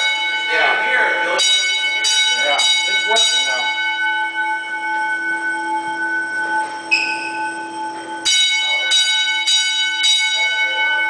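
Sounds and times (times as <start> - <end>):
fire alarm bell strokes: 0.0 - 11.0.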